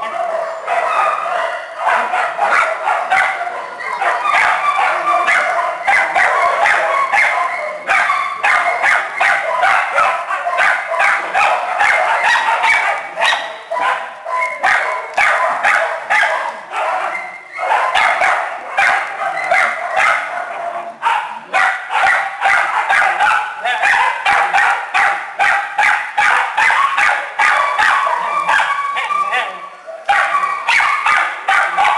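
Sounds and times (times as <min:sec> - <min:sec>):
small dogs barking and yapping: 0:00.0 - 0:31.9.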